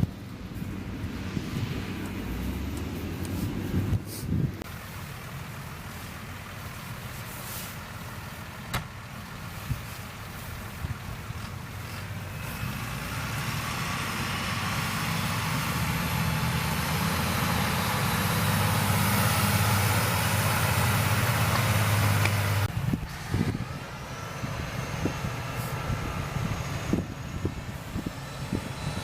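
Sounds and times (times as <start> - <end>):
heavy diesel farm machinery running: 0.0 - 29.0.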